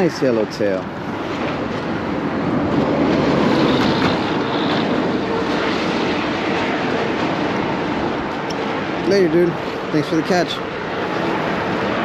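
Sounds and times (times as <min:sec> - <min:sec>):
traffic rushing across bridge: 0:00.0 - 0:12.0.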